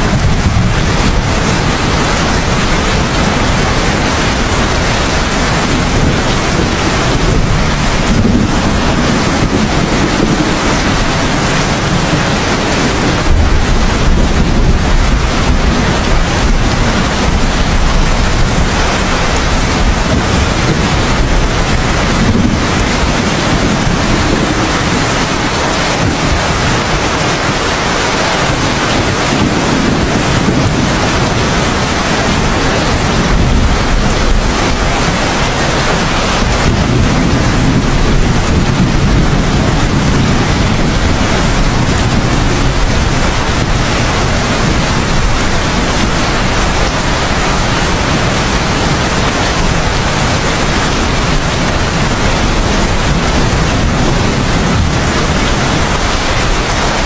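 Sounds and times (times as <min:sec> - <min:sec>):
heavy rain downpour: 0:00.0 - 0:57.0
low rumble of thunder: 0:00.0 - 0:57.0.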